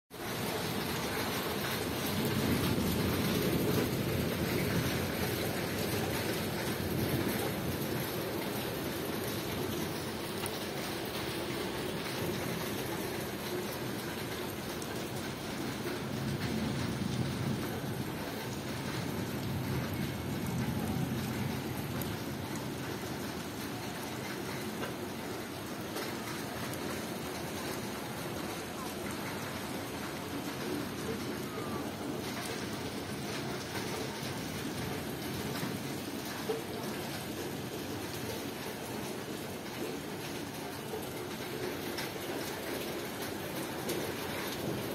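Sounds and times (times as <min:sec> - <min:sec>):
steady rainfall: 0:00.1 - 0:44.9.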